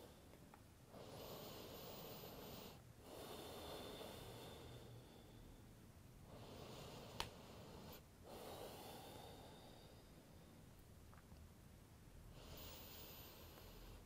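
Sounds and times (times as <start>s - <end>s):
slow soft breathing: 0.0s - 10.8s, 12.2s - 14.0s.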